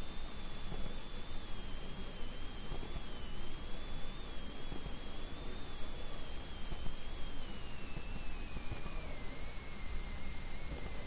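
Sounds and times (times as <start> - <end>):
background hiss: 0.0 - 11.0
faint high whine falling in pitch: 0.0 - 11.0.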